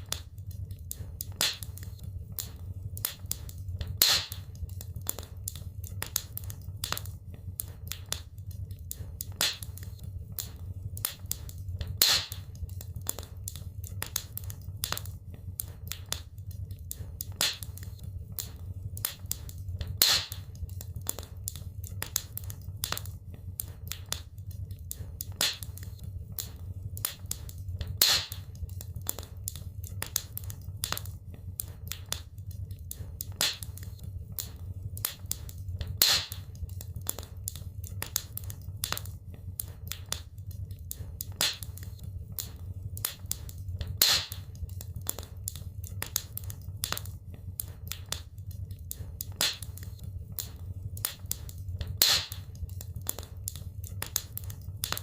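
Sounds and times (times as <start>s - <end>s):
sharp pops from fire: 0.0s - 55.0s
wood fire crackling: 0.0s - 55.0s.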